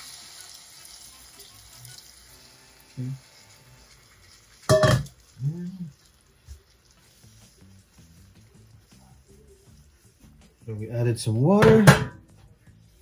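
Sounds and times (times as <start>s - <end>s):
water hissing in hot pan: 0.0s - 11.6s.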